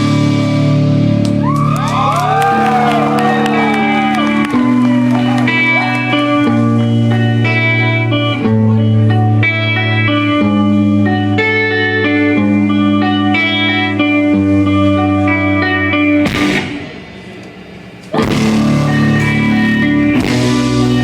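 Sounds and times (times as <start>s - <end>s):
bass: 0.0s - 21.0s
clean electric guitar melody: 0.0s - 21.0s
rock band with drums: 0.0s - 21.0s.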